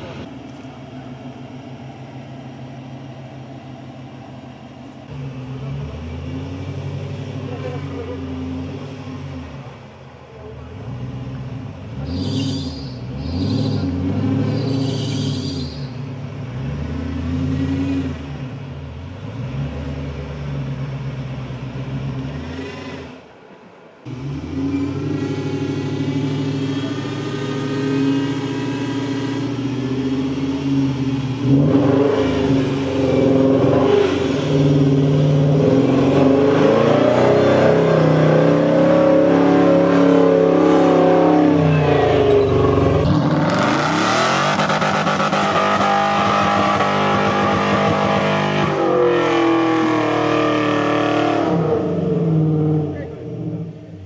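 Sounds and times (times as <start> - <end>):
off-road vehicle engine revving: 5.0 - 23.3, 24.1 - 54.0.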